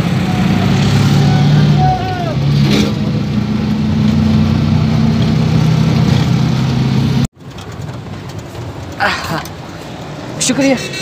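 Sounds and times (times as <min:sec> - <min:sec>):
rickshaw engine running: 0:00.0 - 0:11.0
street noise: 0:00.0 - 0:11.0.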